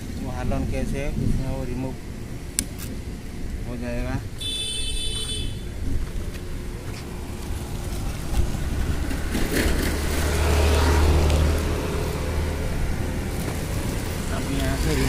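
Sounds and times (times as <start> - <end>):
continuous low rumble: 0.0 - 15.0.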